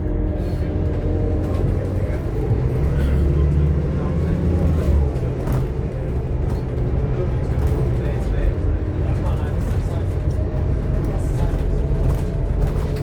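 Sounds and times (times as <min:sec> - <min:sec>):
bus diesel engine pulling: 0:00.0 - 0:13.0.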